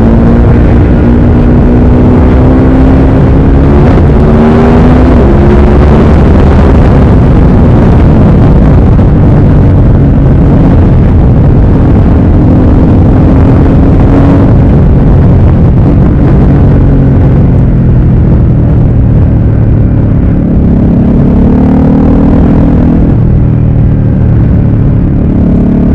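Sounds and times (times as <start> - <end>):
wind buffeting on microphone: 0.0 - 21.3
motorcycle engine accelerating: 0.0 - 25.9.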